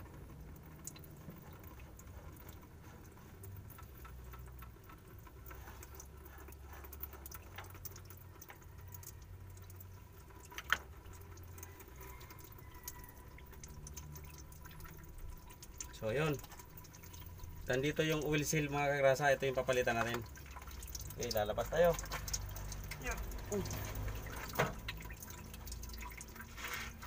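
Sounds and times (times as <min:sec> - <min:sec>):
low steady hum: 0:00.0 - 0:27.0
wet handling sounds: 0:00.8 - 0:27.0.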